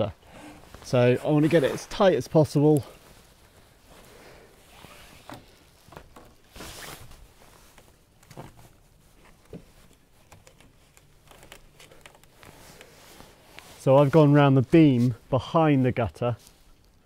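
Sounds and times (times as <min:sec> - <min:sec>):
hands rustling dry plant stems: 0:00.7 - 0:17.0.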